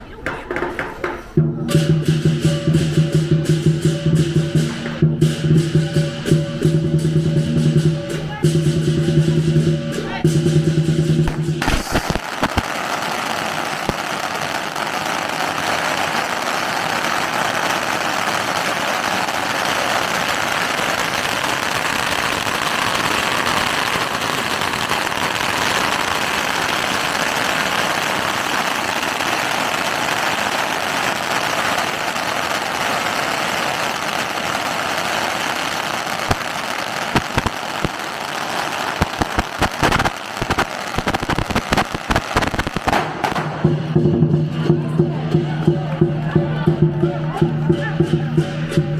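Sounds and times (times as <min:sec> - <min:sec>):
firecrackers crackling and banging: 0:00.0 - 0:46.9.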